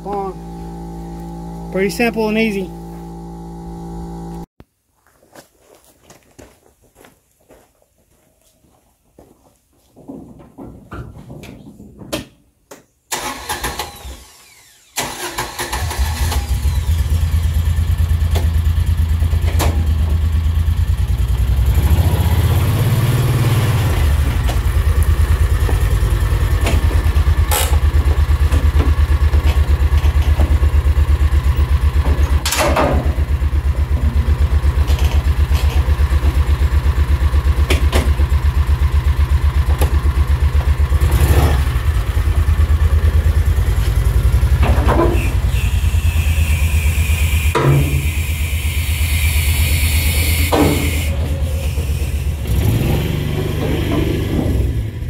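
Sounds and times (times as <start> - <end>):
utility vehicle engine running: 0.0 - 4.5, 15.0 - 55.0.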